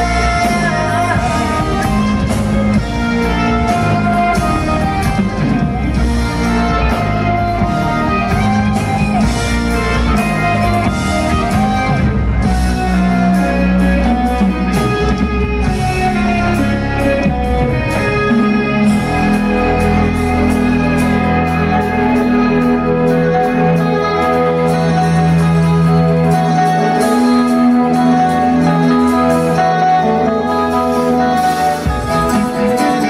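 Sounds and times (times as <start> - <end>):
bass guitar: 0.0 - 33.0
drums: 0.0 - 33.0
electric guitar: 0.0 - 33.0.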